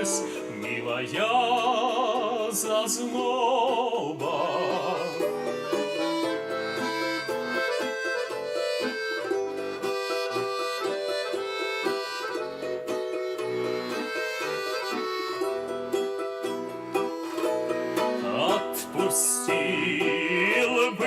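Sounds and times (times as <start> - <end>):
accordion chords: 0.0 - 0.9, 4.2 - 21.0
balalaika plucked: 0.0 - 21.0.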